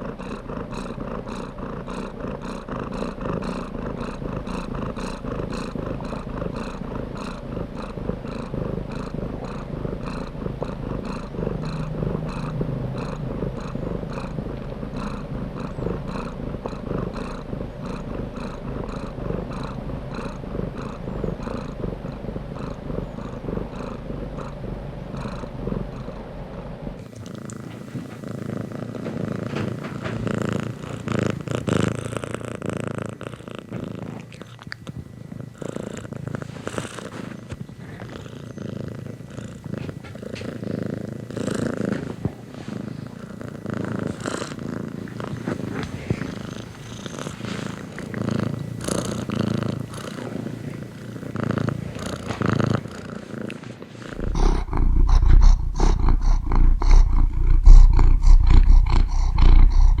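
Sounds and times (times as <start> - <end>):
cat purring: 0.0 - 60.0.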